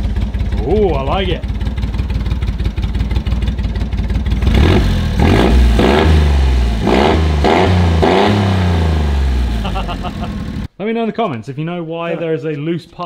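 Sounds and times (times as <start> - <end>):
engine popping idle and revving: 0.0 - 10.7.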